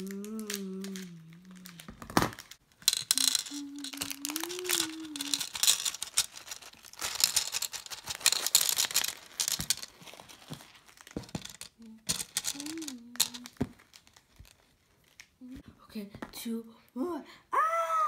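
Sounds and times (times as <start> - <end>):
plastic beads pouring into tray: 0.0 - 14.6
plastic bag crinkling: 0.0 - 15.4.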